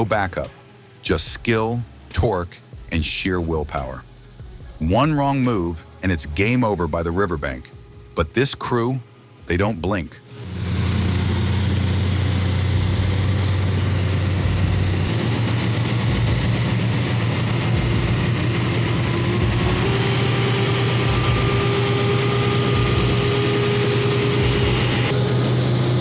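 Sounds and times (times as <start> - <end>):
truck diesel engines droning: 0.0 - 26.0.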